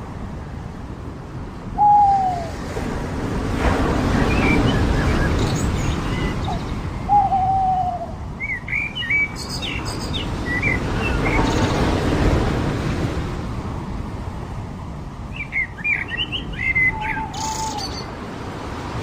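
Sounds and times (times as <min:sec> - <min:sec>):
surf washing on beach: 0:00.0 - 0:19.0.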